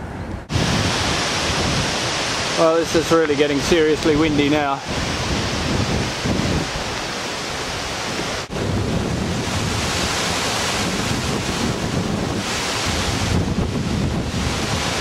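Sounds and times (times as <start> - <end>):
strong gusty wind on microphone: 0.0 - 15.0.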